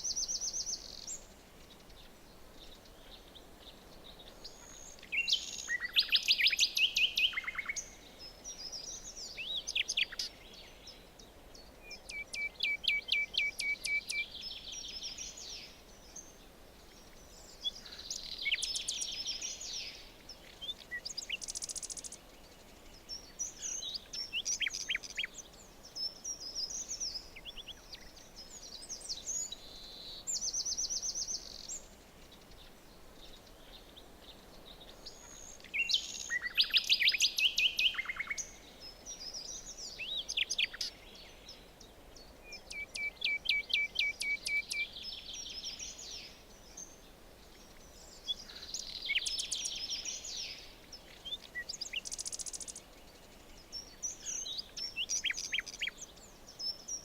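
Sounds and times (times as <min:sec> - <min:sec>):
faint background hiss: 0:00.0 - 0:57.0
songbirds calling and singing: 0:00.0 - 0:57.0.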